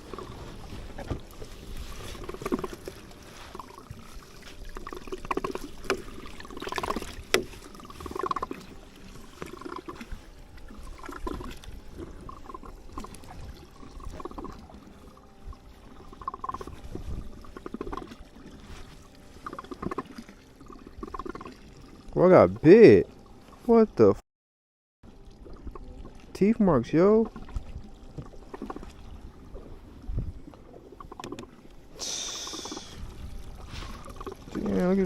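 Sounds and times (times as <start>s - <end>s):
water lapping against boat hull: 0.0s - 24.0s, 25.1s - 35.0s.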